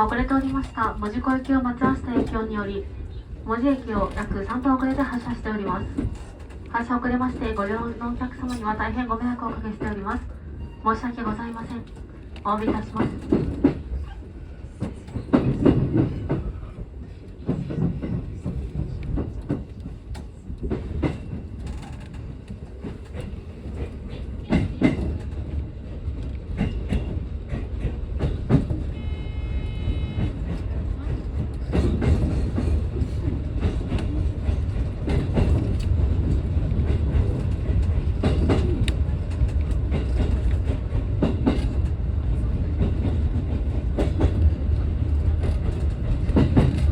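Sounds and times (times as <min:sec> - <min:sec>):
train rumble from inside: 0:00.0 - 0:46.9.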